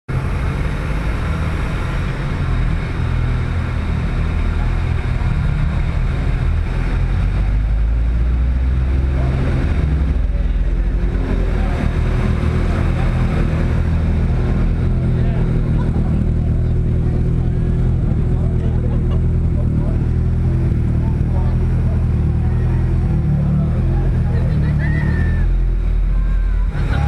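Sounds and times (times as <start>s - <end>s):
car engine running at low speed: 0.1s - 27.0s.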